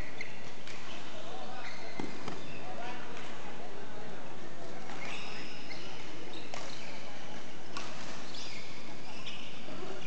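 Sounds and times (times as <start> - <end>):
shoes squeaking on court floor: 0.0 - 3.2, 4.6 - 10.0.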